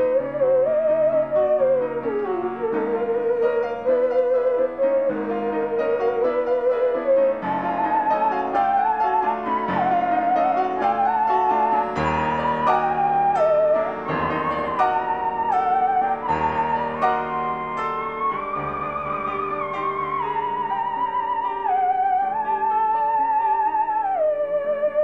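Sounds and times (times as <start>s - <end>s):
grand piano chords: 0.0s - 25.0s
theremin melody: 0.0s - 25.0s.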